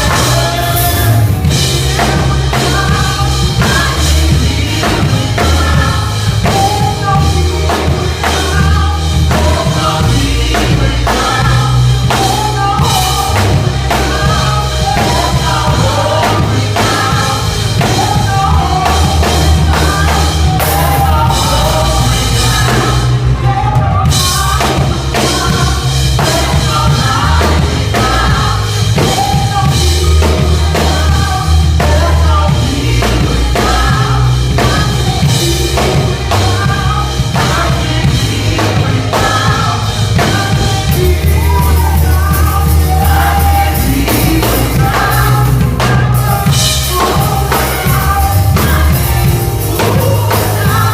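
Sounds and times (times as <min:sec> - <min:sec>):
drum kit: 0:00.0 - 0:50.9
gospel singing: 0:00.0 - 0:50.9
heavy bass: 0:00.0 - 0:50.9.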